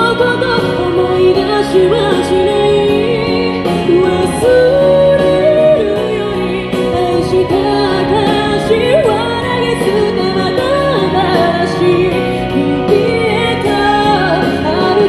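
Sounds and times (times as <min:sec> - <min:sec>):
instrumental accompaniment: 0:00.0 - 0:15.0
woman singing into a microphone: 0:00.0 - 0:15.0.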